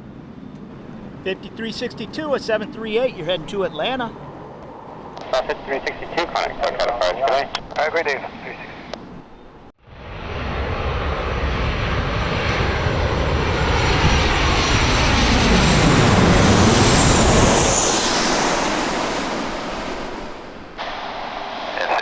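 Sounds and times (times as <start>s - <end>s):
jet engines passing close: 0.0s - 22.0s.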